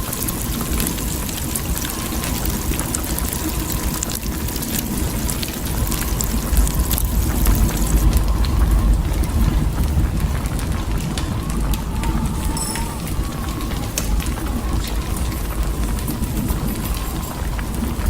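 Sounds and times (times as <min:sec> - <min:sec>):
fine crackling ticks: 0:00.0 - 0:18.0
wind buffeting microphone: 0:00.0 - 0:18.0.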